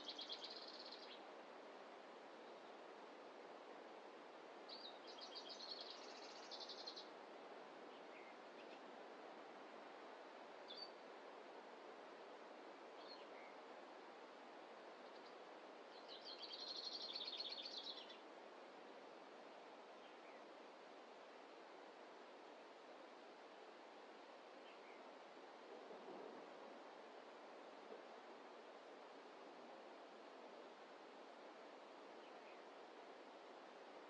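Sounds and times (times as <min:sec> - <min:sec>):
soft forest ambience hiss: 0:00.0 - 0:34.0.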